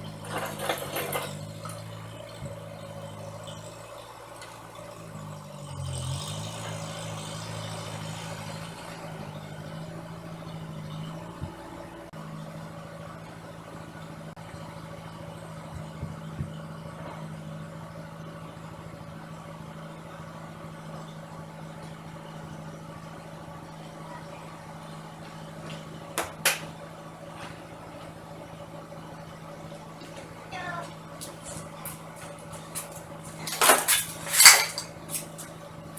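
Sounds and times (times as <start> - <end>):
vehicle engine idling: 0.0 - 35.9.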